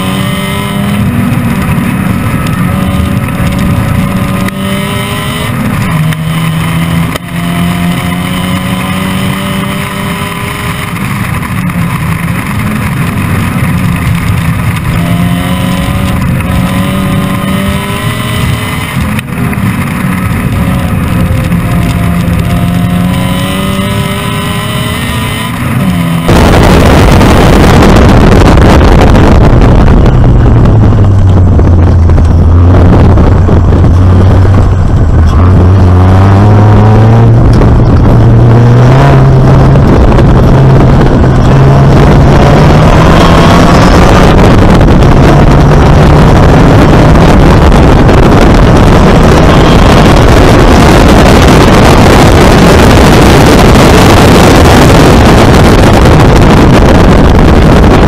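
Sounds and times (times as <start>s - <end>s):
car engine revving hard: 0.0s - 58.0s
wind buffeting microphone: 0.0s - 58.0s.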